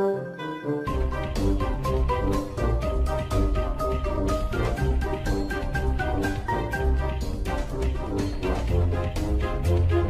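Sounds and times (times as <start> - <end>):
steady beat with bass: 0.9 - 10.0.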